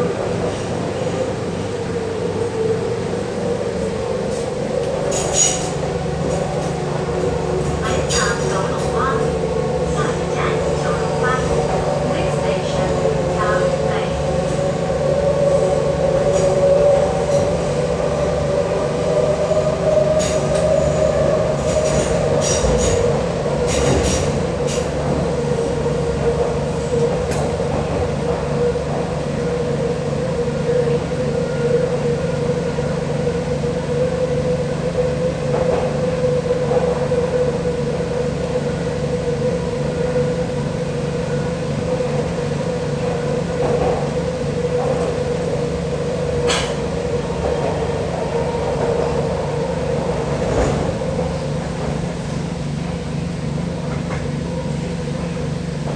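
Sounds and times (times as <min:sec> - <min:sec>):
metro train rumble and whine: 0:00.0 - 0:55.9.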